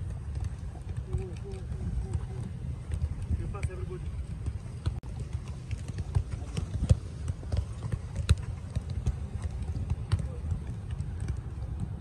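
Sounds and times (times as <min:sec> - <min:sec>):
footballs kicked on turf: 0:00.0 - 0:12.0
wind rumble on microphone: 0:00.0 - 0:12.0.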